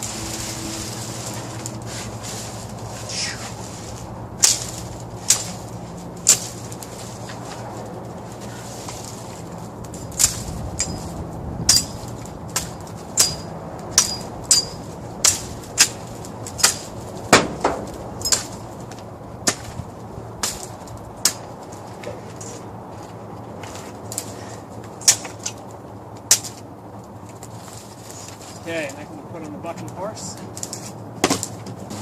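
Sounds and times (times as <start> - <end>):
branches cracking: 0.0 - 29.1, 29.7 - 32.0.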